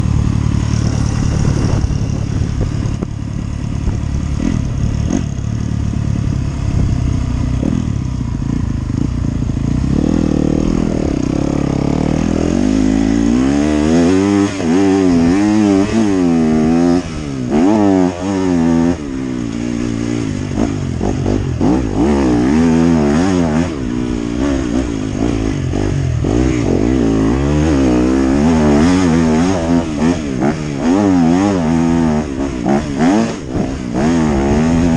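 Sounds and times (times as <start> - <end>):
motocross engine revving: 0.0 - 34.9.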